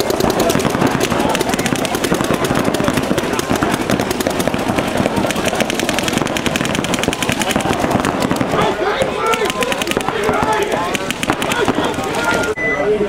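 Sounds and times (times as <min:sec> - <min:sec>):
paintball markers firing rapidly: 0:00.0 - 0:12.6.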